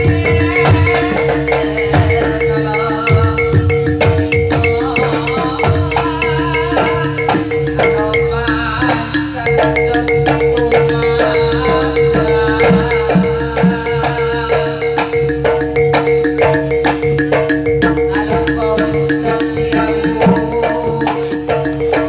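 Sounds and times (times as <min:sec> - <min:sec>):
drums playing busy rhythm: 0:00.0 - 0:22.0
struck metallophone notes: 0:00.0 - 0:22.0.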